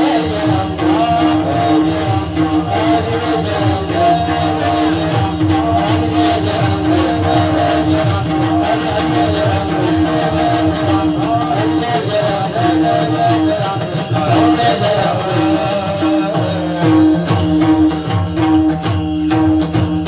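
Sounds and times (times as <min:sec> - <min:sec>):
devotional drum music: 0:00.0 - 0:20.0
jingling hand cymbals: 0:00.0 - 0:20.0.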